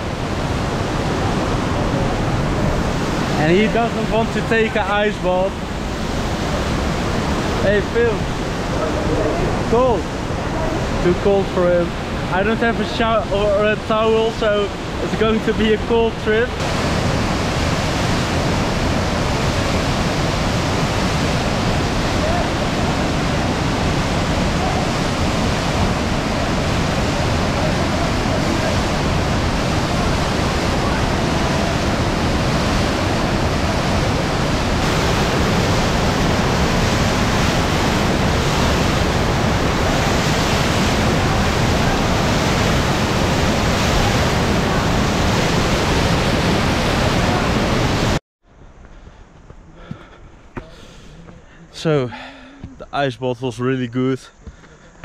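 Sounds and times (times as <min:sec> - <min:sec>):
waterfall rushing: 0:00.0 - 0:48.2.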